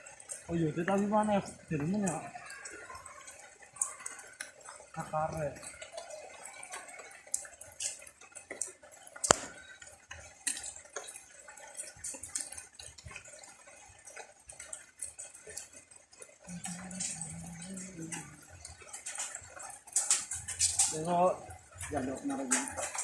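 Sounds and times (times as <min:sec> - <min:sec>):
water dripping and tapping: 0:00.0 - 0:23.0.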